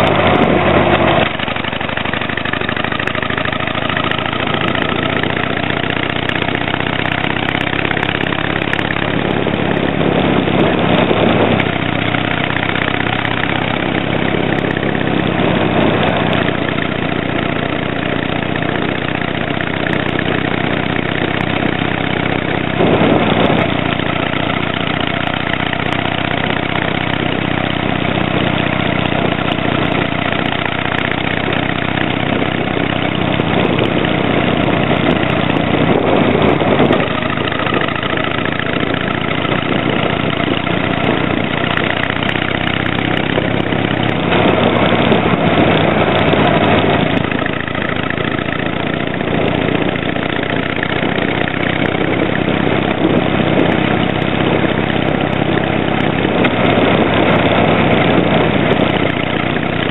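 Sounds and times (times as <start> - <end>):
motorcycle engine riding: 0.0 - 59.9.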